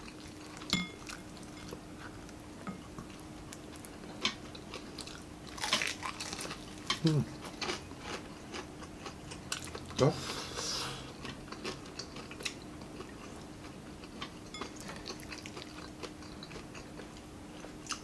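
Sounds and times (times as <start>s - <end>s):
chewing with crisp crackles: 0.0s - 18.0s.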